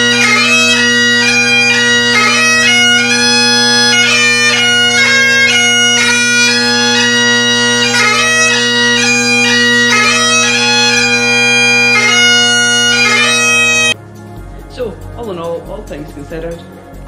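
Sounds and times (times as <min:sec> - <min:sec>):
bagpipe playing solo: 0:00.0 - 0:14.0.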